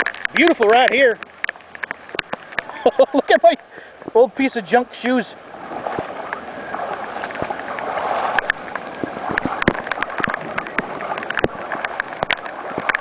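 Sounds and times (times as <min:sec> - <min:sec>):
heavy rain: 0:00.0 - 0:04.1, 0:05.4 - 0:13.0
raindrops tapping: 0:00.0 - 0:04.4, 0:05.8 - 0:13.0
water sloshing and splashing: 0:00.0 - 0:13.0.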